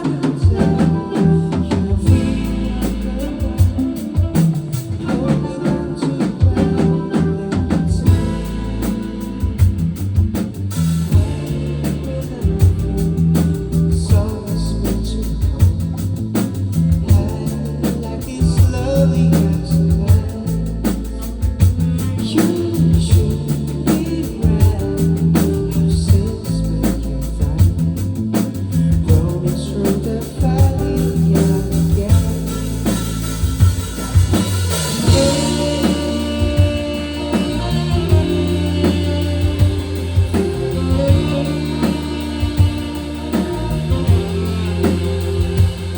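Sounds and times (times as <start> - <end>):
bass and electric guitar: 0.0 - 45.9
drum kit beat: 0.0 - 45.9
person singing: 0.0 - 45.9.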